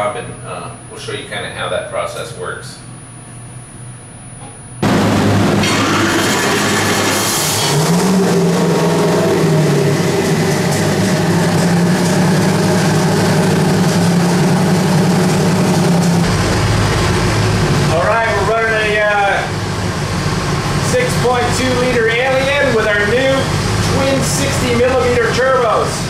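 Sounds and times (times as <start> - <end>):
engine revving: 4.8 - 26.0.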